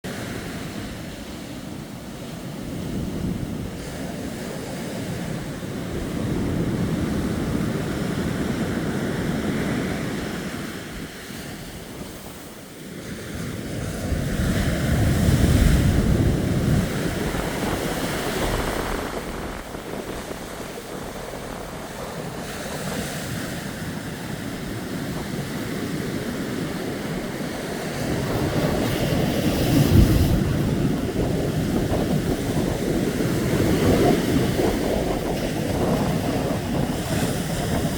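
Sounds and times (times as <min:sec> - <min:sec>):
sea waves breaking on shore: 0:00.1 - 0:37.9
wind buffeting microphone: 0:00.1 - 0:37.9.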